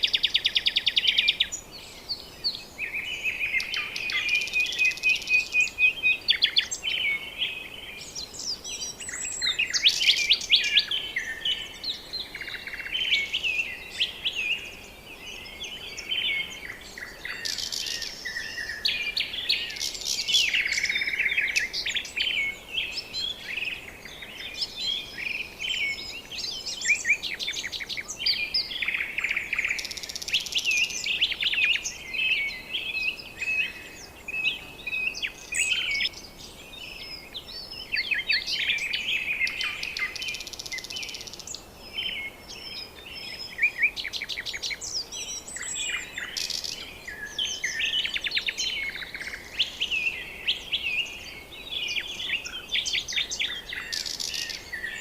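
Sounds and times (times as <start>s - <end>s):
chorus of birds chirping: 0.0s - 55.0s.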